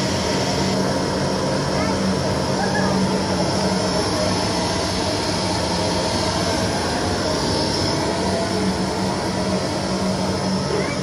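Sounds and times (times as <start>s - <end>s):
electric air blower running: 0.0s - 11.0s.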